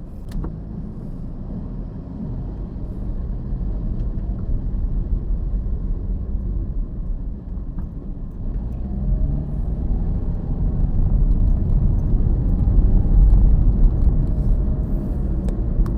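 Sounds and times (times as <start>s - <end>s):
car road and engine noise: 0.0s - 15.9s.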